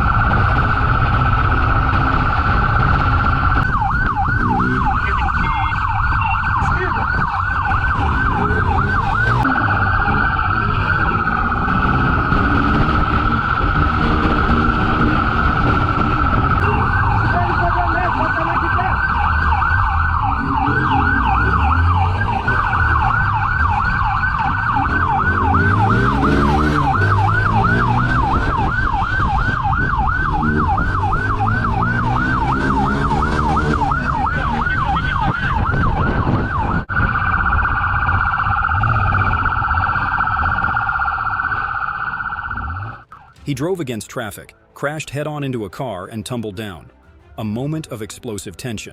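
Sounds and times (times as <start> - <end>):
vehicle engine revving: 0.0 - 5.3, 7.6 - 37.0, 38.1 - 43.2
police siren yelping: 0.0 - 43.5.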